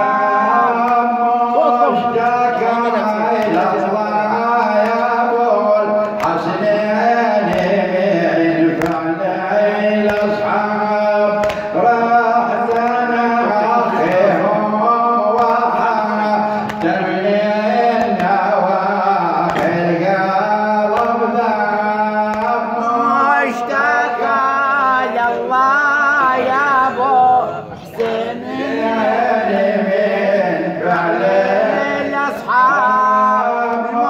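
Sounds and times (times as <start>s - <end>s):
man singing a lament into microphone: 0.0s - 34.0s.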